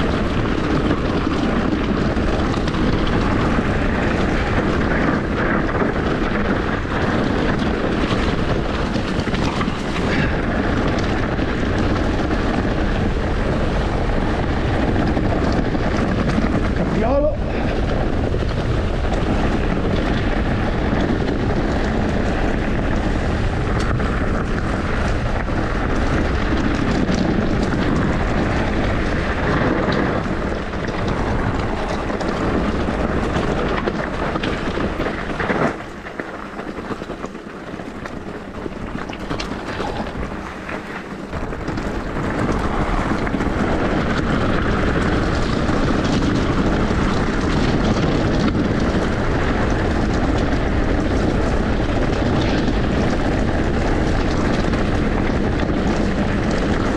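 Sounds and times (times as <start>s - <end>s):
e-bike riding noise: 0.0s - 56.9s
wind on microphone: 0.0s - 56.9s.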